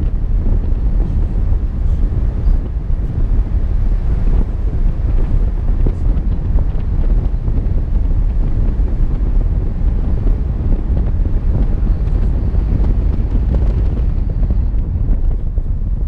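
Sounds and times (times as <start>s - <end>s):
vehicle road and engine rumble: 0.0s - 16.0s
wind buffeting microphone: 0.0s - 16.0s.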